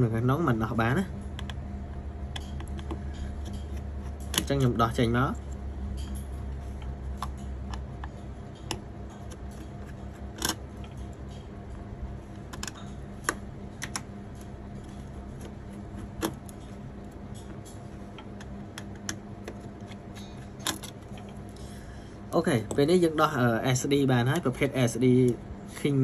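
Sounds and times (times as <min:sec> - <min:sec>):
low computer hum: 0:00.0 - 0:26.0.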